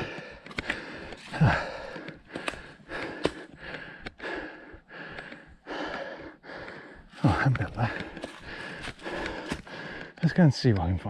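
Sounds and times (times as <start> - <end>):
person breathing hard: 0.0 - 10.2.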